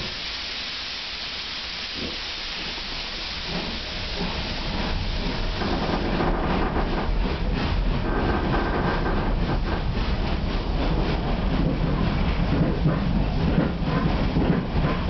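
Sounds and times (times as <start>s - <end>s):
steam locomotive hiss: 0.0s - 15.0s.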